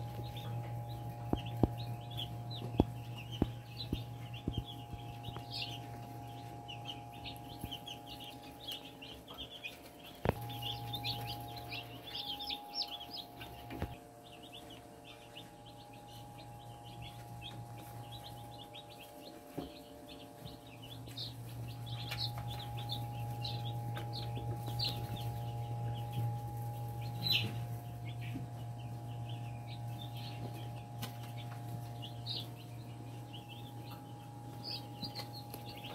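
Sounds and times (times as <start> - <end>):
chicks peeping: 0.0 - 35.9
steady low hum: 0.0 - 35.9.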